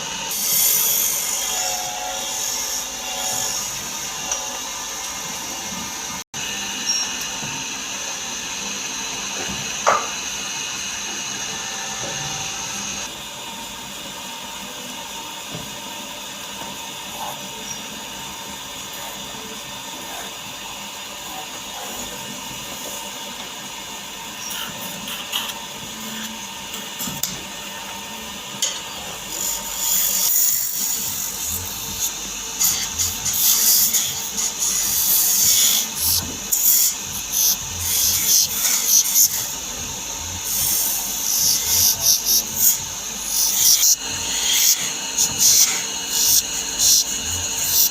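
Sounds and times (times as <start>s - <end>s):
power tool working wood: 0.0s - 13.4s, 16.5s - 47.9s.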